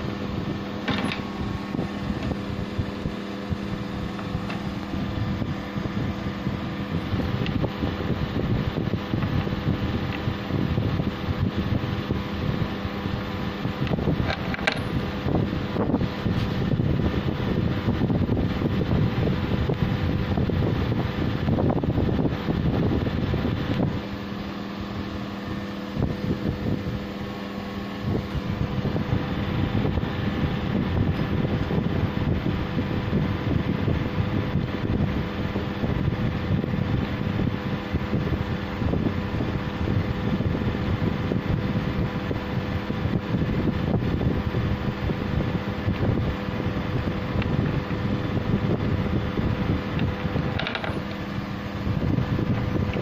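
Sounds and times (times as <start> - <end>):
steady mechanical hum: 0.0 - 53.0.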